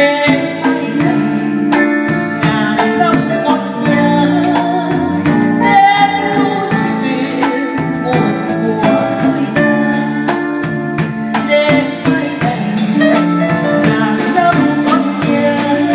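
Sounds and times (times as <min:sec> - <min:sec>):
drum kit cymbal beat: 0:00.0 - 0:15.9
electric guitar: 0:00.0 - 0:15.9
woman singing into a microphone: 0:00.0 - 0:15.9.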